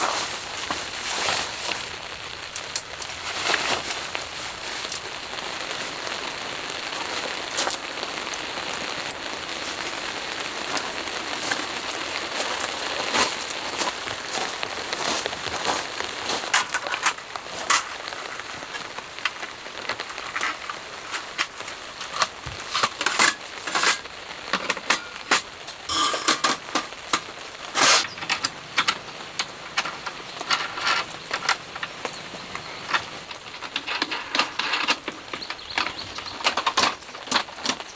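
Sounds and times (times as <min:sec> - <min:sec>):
rain pattering on a tent: 0:00.0 - 0:37.9.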